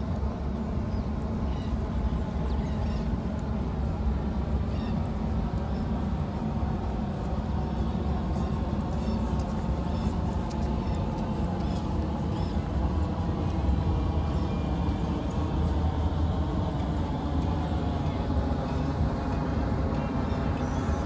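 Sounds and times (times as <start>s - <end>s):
distant city traffic rumble: 0.0s - 21.0s.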